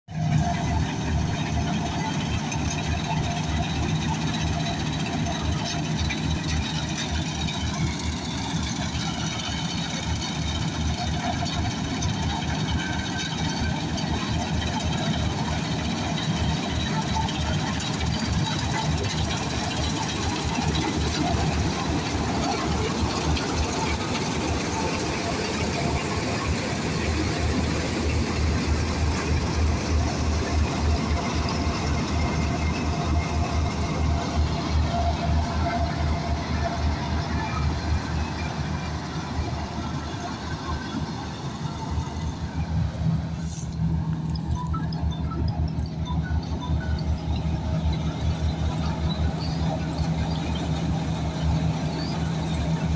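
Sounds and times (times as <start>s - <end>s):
combine harvester engine running: 0.1s - 52.9s.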